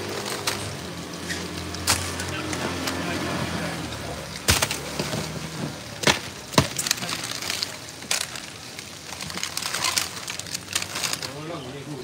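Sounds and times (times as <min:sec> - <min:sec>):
crushed ice crunching: 0:00.0 - 0:12.0.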